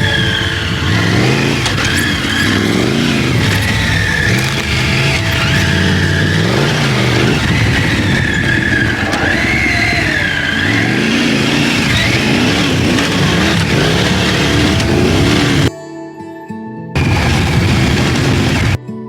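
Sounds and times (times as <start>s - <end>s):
motorcycle engine pulling: 0.0s - 15.7s, 17.0s - 18.8s.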